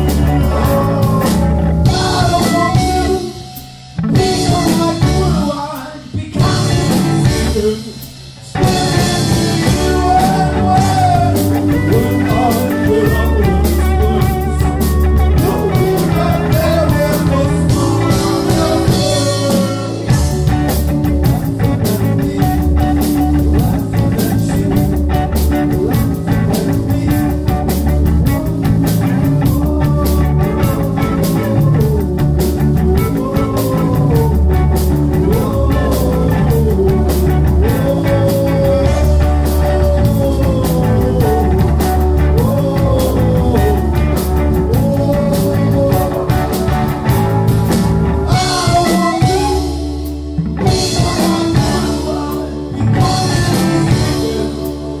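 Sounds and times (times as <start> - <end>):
drum kit: 0.0 - 55.0
electric guitar: 0.0 - 55.0
person singing: 0.0 - 55.0
synthesizer keyboards: 8.6 - 55.0.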